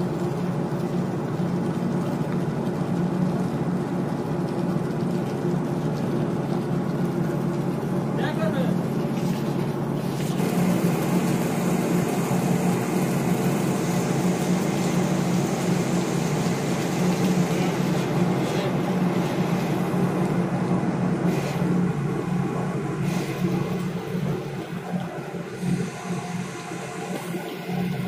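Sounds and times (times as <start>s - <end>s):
marine engine drone: 0.0s - 28.0s.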